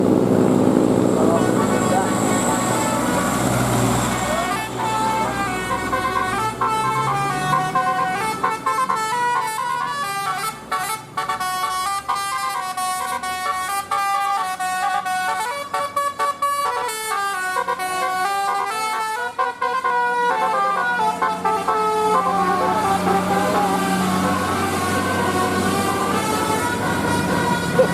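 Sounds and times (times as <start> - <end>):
musical bus horn melody: 1.3 - 27.9.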